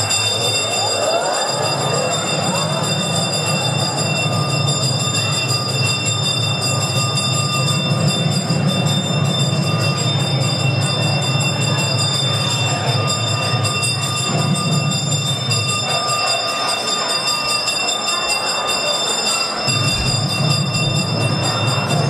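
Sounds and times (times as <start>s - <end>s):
temple bells ringing: 0.0s - 22.0s.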